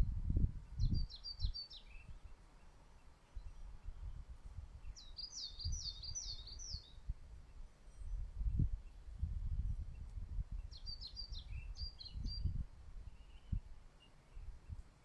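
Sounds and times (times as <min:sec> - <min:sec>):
songbird chirping: 0:00.4 - 0:15.0.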